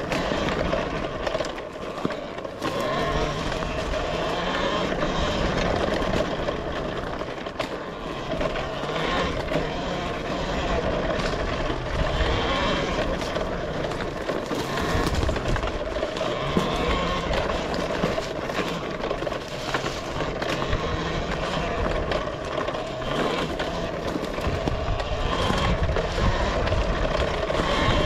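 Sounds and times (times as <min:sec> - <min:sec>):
electric motor whine: 0:00.0 - 0:28.0
tyre noise on dirt: 0:00.0 - 0:28.0.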